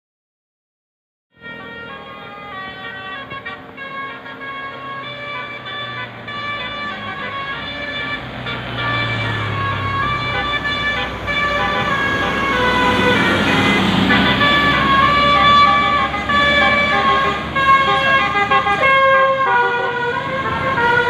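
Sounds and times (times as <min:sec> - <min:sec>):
bus engine rumble: 0:01.4 - 0:21.0
multi-tone musical air horn: 0:01.4 - 0:21.0.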